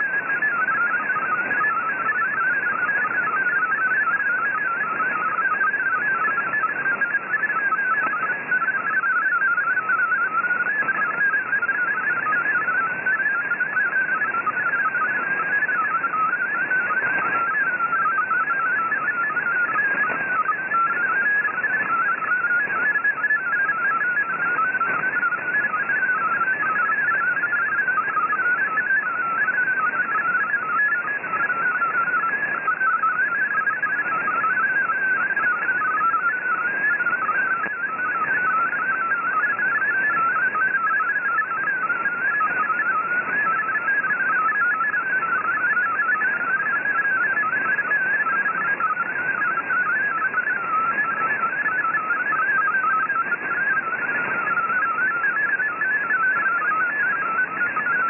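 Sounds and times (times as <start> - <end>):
digital data tones: 0.0 - 58.0.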